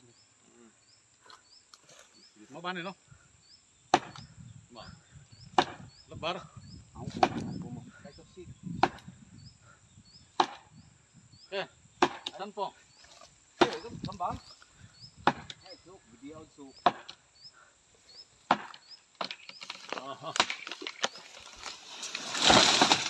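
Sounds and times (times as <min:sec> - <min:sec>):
faint insect chirping: 0:00.0 - 0:22.8.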